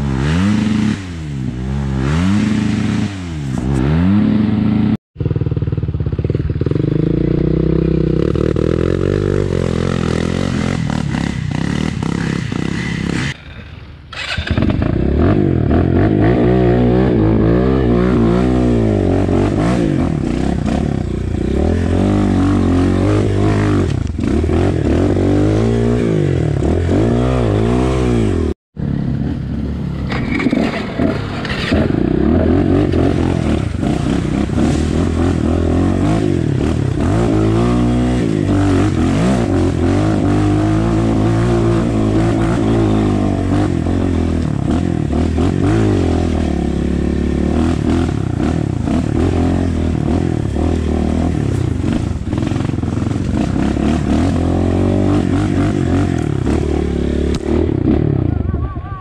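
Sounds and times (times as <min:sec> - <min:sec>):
dirt bike engine revving: 0:00.0 - 0:58.7.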